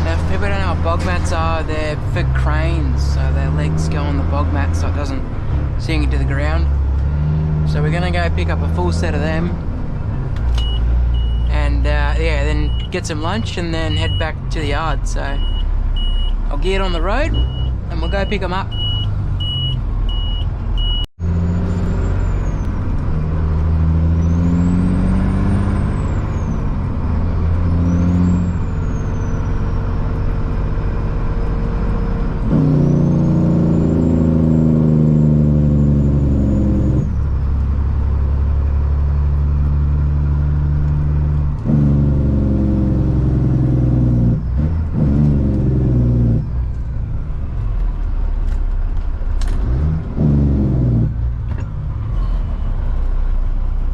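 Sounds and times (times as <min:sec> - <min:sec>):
truck diesel engine accelerating: 0:00.0 - 0:53.9.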